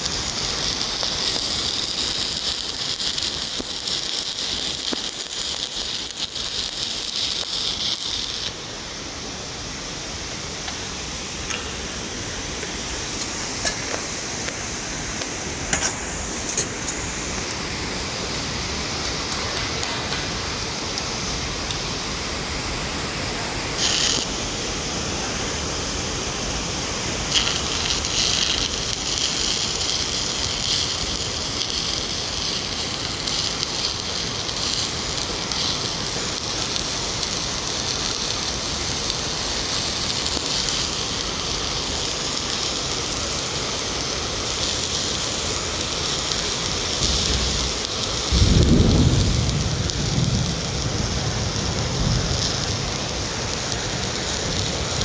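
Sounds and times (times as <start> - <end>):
welding arc sizzling hiss: 0.0 - 55.0.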